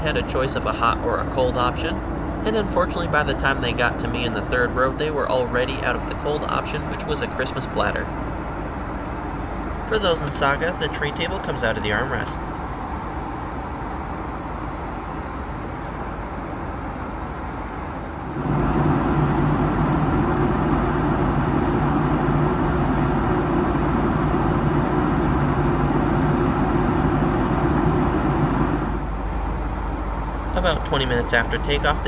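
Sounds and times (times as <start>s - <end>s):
jet cabin noise: 0.0s - 32.0s.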